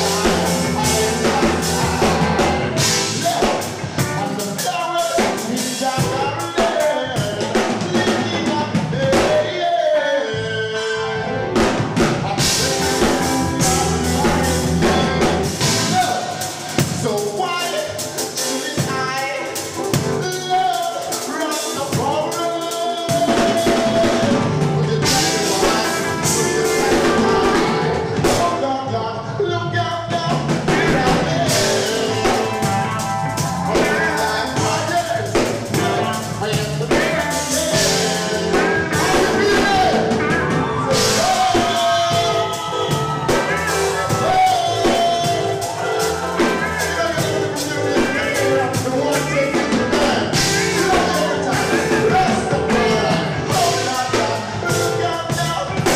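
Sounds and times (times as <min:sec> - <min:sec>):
live rock band playing: 0:00.0 - 0:55.9
person singing: 0:00.0 - 0:55.9.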